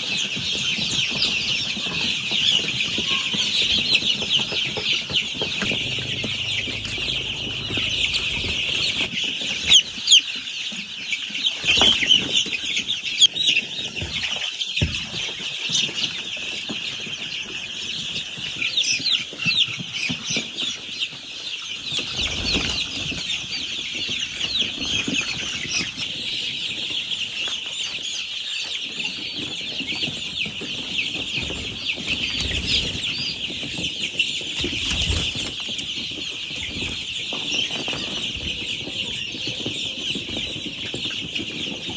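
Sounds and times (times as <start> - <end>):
chicks peeping: 0.0 - 10.4, 11.1 - 41.9.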